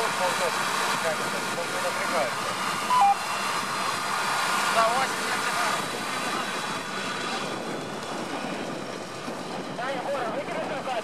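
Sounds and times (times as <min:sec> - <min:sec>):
off-road vehicle engine straining: 0:00.0 - 0:11.0.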